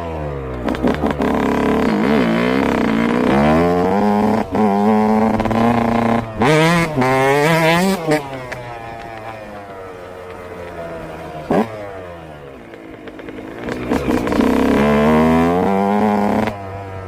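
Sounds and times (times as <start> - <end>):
two-stroke engine revving hard: 0.0 - 9.8, 10.7 - 17.0.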